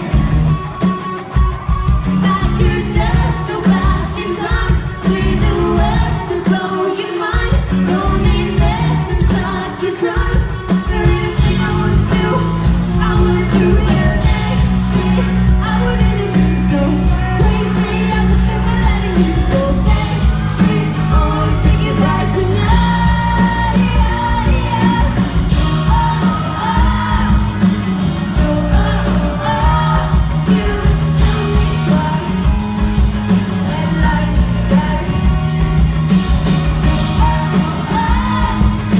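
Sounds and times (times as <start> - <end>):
lead singer singing: 0.0 - 38.9
live pop-rock band playing: 0.0 - 38.9.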